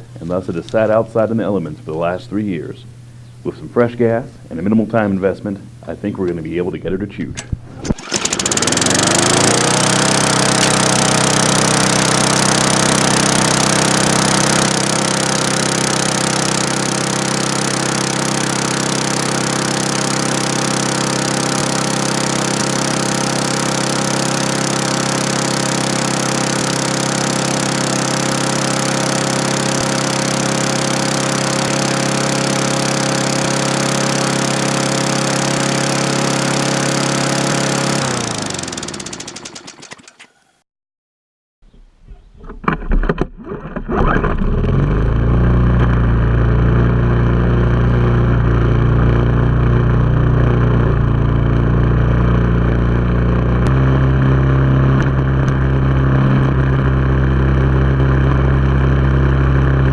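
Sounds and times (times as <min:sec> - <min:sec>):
lawn mower engine running: 0:05.7 - 0:40.3, 0:42.6 - 0:59.9
engine winding down: 0:07.8 - 0:40.3, 0:43.2 - 0:59.9.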